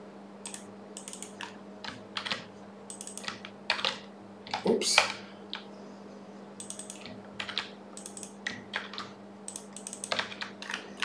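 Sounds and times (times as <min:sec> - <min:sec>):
computer keyboard typing: 0:00.5 - 0:05.6, 0:06.6 - 0:11.0.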